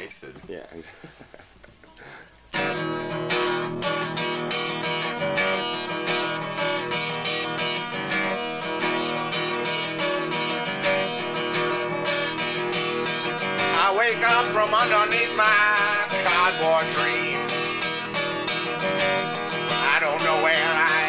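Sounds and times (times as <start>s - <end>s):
acoustic guitar strumming: 2.5s - 21.0s.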